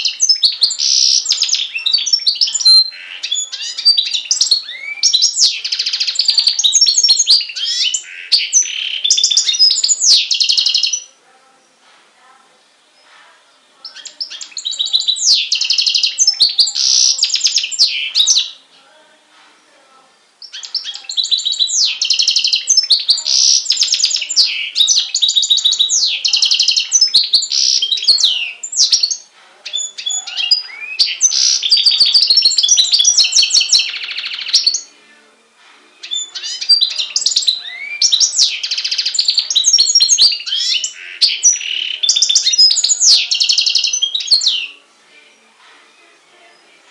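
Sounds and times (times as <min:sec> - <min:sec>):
bird singing trills and whistles: 0:00.0 - 0:11.1, 0:13.8 - 0:18.7, 0:20.4 - 0:35.0, 0:36.0 - 0:44.8.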